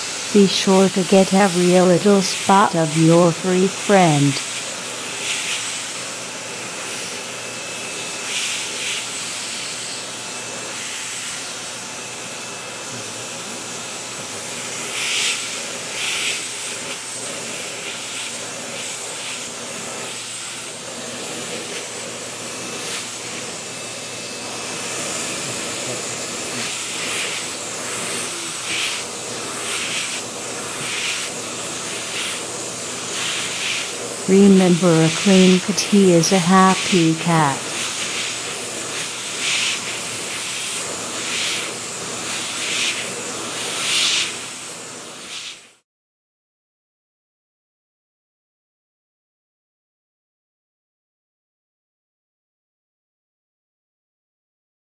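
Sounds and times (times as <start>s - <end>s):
vacuum cleaner running: 0.0s - 45.8s.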